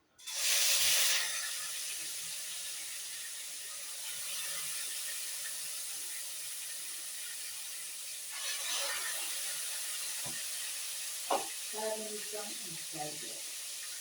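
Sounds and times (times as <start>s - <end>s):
chicken sizzling in hot oil: 0.1s - 14.0s.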